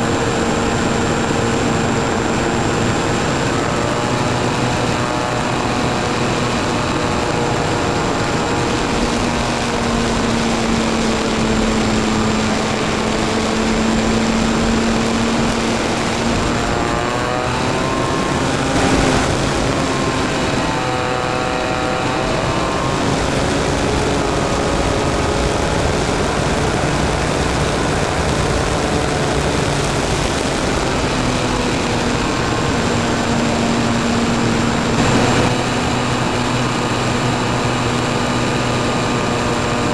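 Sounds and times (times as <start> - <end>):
rushing air noise: 0.0 - 39.6
propeller aircraft engine droning: 0.0 - 39.9.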